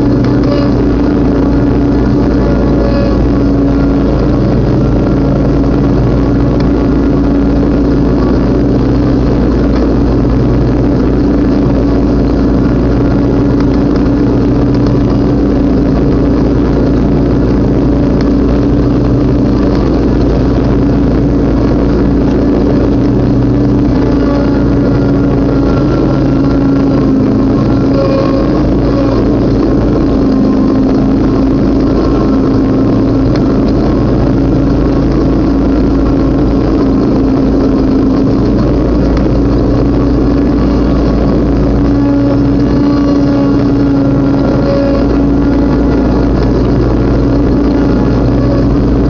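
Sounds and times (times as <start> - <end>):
riding lawn mower engine: 0.0 - 49.0.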